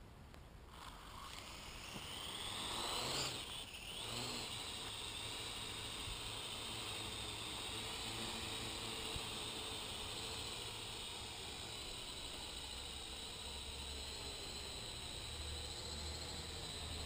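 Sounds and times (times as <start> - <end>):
drone propellers whining: 0.7 - 17.0.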